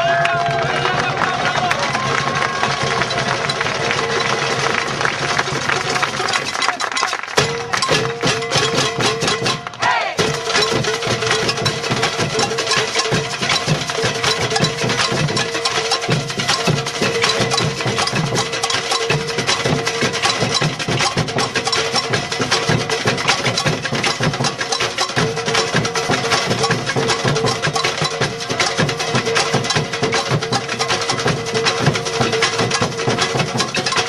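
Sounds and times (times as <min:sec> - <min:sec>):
fast percussion music: 0:00.0 - 0:34.0.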